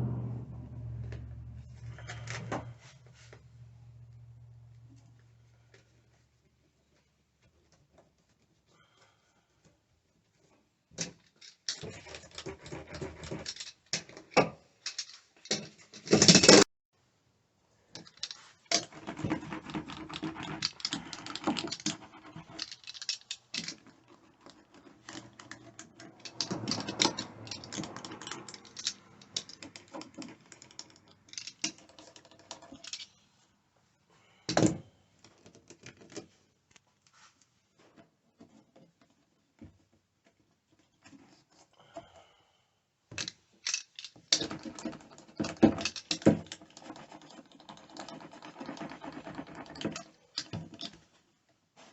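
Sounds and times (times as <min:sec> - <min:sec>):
crinkling and scraping by hand: 0:01.0 - 0:16.7, 0:17.8 - 0:42.4, 0:43.1 - 0:51.9.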